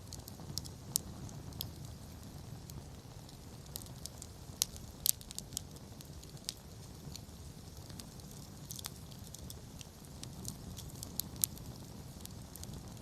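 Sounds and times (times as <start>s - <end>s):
campfire crackling: 0.0s - 13.0s
low fire rumble: 0.0s - 13.0s.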